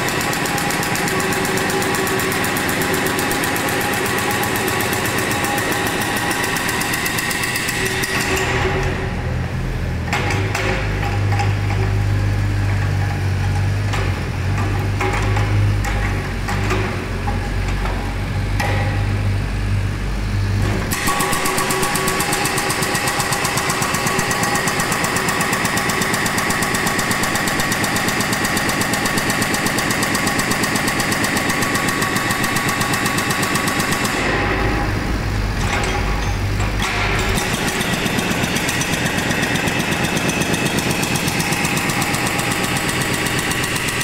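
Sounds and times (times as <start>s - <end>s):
hydraulic hammer pounding concrete: 0.0s - 19.5s, 20.5s - 44.0s
diesel engine running: 0.0s - 44.0s.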